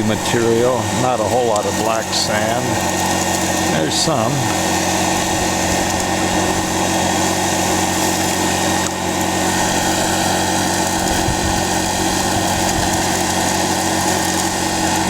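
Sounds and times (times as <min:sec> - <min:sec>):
small gasoline engine droning: 0:00.0 - 0:15.0.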